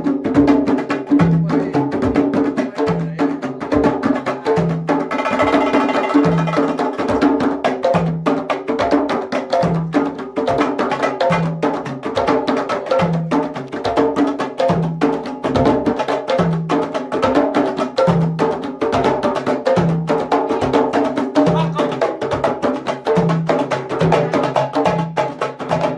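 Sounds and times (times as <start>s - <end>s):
hand drums playing rhythm: 0.0s - 25.9s.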